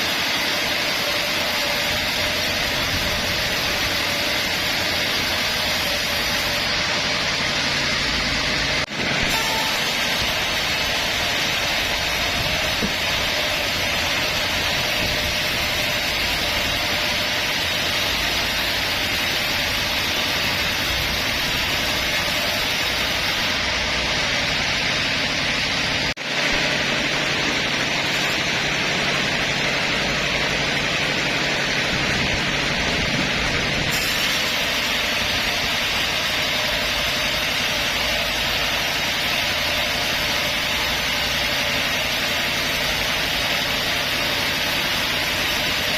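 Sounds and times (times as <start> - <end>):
band saw running: 0.0 - 45.9.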